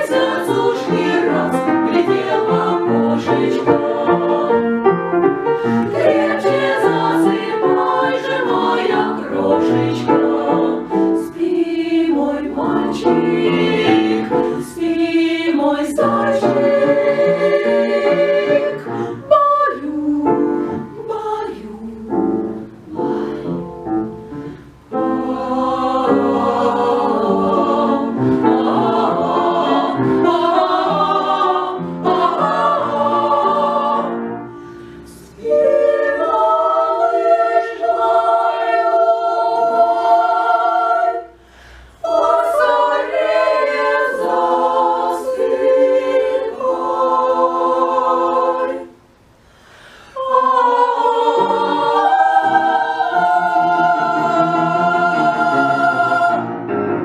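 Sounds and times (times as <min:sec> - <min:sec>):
vocal ensemble singing in harmony: 0:00.0 - 0:57.0.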